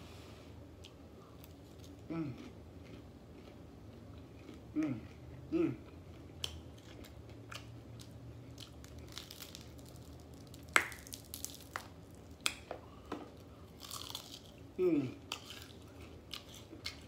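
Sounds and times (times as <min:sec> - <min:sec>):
chewing with wet crunches: 0:00.8 - 0:11.8, 0:13.5 - 0:17.0.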